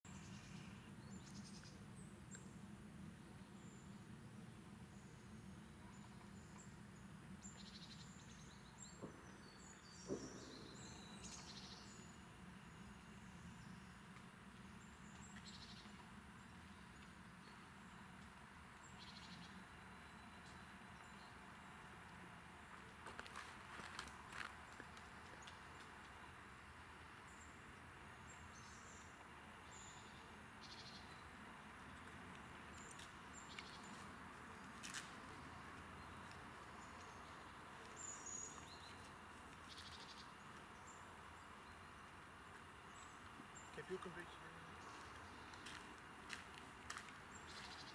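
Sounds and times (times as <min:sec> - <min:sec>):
background hiss: 0:00.1 - 0:47.9
songbird chirps and trills: 0:00.1 - 0:47.9.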